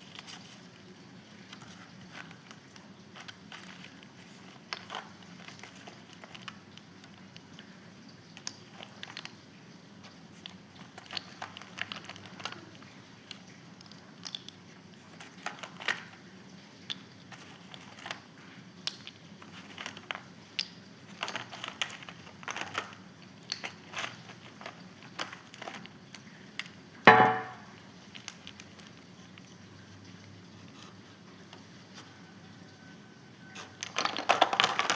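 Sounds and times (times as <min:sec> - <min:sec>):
packaging crinkling and rustling: 0:00.0 - 0:26.9, 0:27.8 - 0:32.8, 0:33.4 - 0:34.9.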